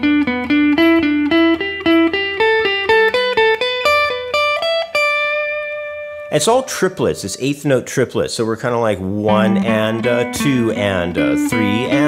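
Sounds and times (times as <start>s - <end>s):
electric guitar scale notes: 0.0s - 8.1s, 8.7s - 12.0s.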